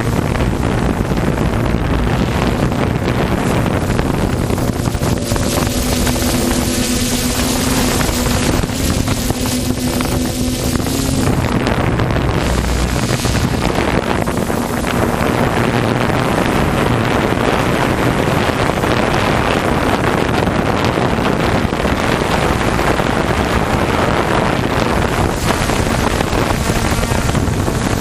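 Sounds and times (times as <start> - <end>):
jet ski engines racing: 0.0 - 28.0
wind buffeting microphone: 0.0 - 28.0.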